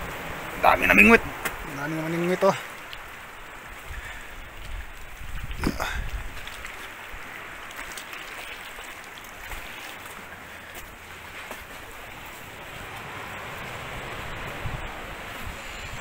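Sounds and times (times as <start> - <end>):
surf on rocky shore: 0.0 - 16.0
wind: 0.0 - 16.0.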